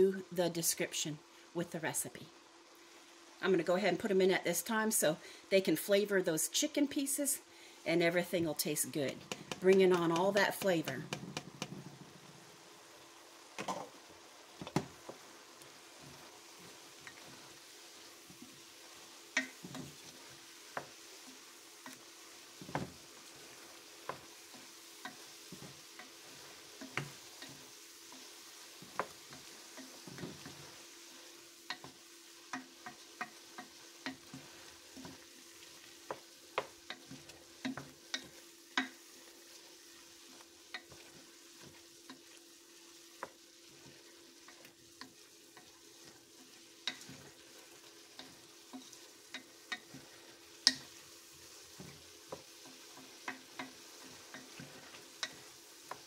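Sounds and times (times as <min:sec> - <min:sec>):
chicken sizzling in a pot: 0:00.0 - 0:56.0.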